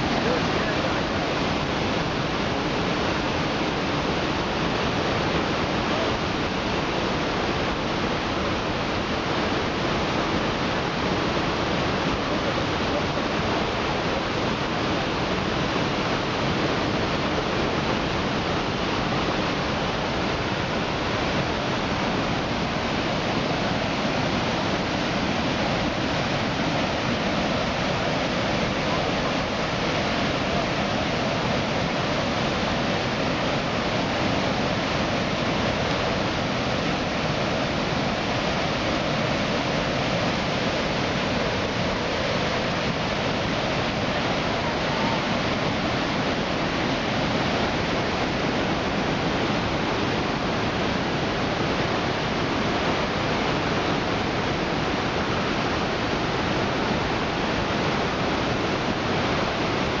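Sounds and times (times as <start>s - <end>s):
water rushing through rapids: 0.0s - 60.0s.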